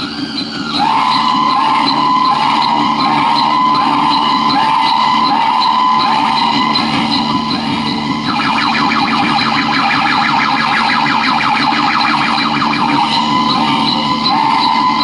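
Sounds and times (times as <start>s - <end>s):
electronic siren effect: 0.0s - 15.0s.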